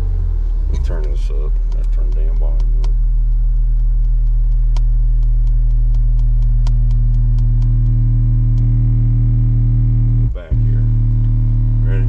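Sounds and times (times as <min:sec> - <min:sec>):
faint ticking: 0:00.0 - 0:12.0
low bass test tone: 0:00.0 - 0:12.0.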